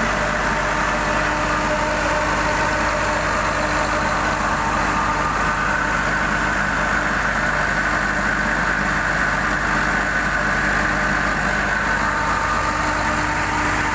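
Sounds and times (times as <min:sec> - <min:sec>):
diesel engine running: 0:00.0 - 0:13.9
steady high whine: 0:00.0 - 0:13.9.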